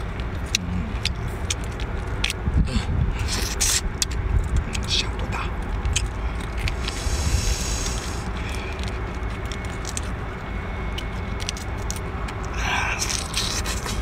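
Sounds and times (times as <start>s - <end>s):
prawn shell cracking: 0.0s - 2.4s, 3.2s - 14.0s
steady low rumble: 0.0s - 14.0s.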